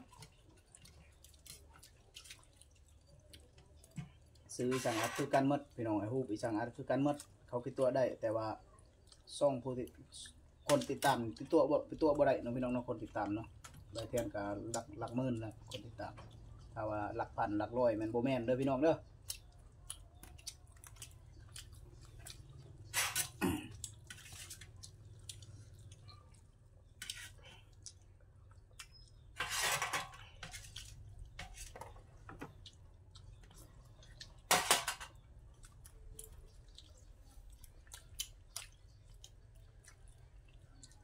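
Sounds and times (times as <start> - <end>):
wet chewing and lip smacking: 0.0 - 4.6, 8.6 - 16.8, 19.0 - 29.4, 30.2 - 34.5, 35.1 - 41.0.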